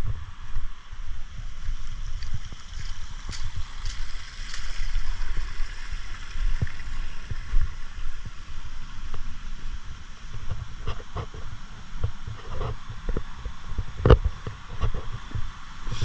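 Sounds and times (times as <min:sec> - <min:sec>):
steady high hiss: 0:00.0 - 0:16.0
wind buffeting microphone: 0:00.0 - 0:16.0.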